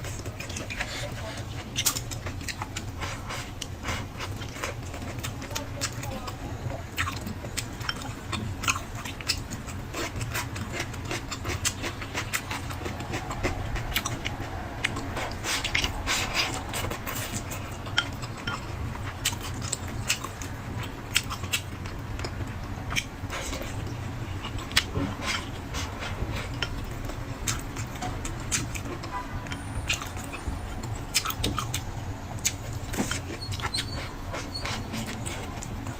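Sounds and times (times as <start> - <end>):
close chewing and mouth sounds: 0.0 - 35.9.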